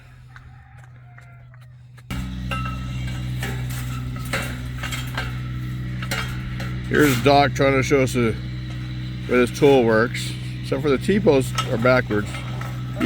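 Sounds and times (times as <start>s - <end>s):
engine hum: 0.0s - 13.0s
metal clanks and clinks: 2.1s - 13.0s.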